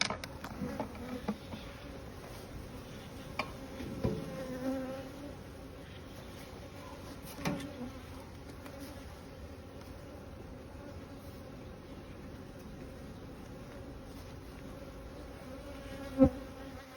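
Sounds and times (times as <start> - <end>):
bees buzzing: 0.3 - 16.9.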